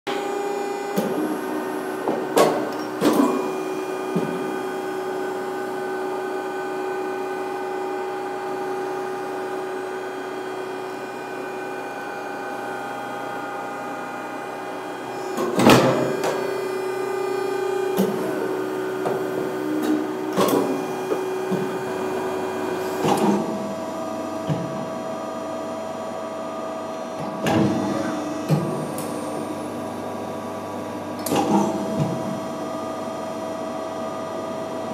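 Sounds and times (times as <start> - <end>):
press brake hum and whine: 0.1 - 34.9.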